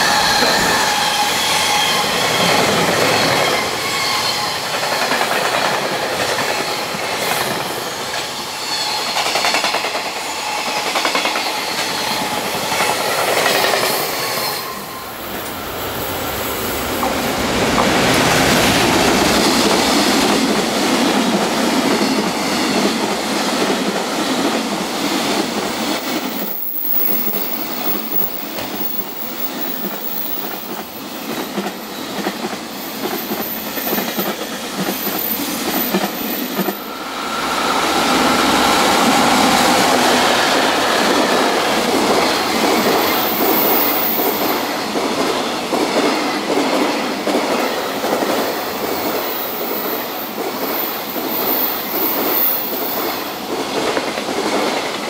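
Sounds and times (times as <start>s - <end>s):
train wheels clattering over rails: 0.0s - 14.8s, 16.7s - 55.0s
train wheel squeal: 0.0s - 17.4s, 25.0s - 46.3s, 47.0s - 53.9s.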